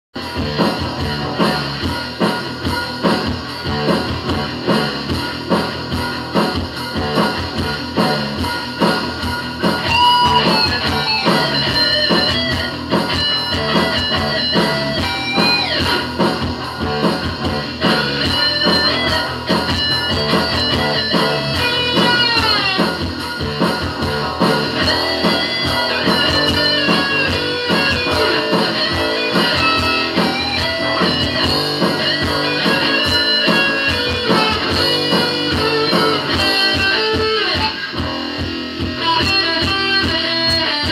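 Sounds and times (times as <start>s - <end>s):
electric guitar playing: 0.2s - 40.9s.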